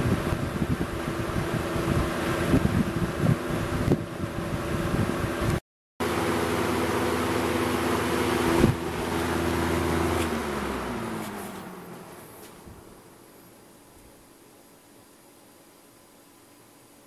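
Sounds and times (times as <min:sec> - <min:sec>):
box fan hum and blade whoosh: 0:00.0 - 0:14.2.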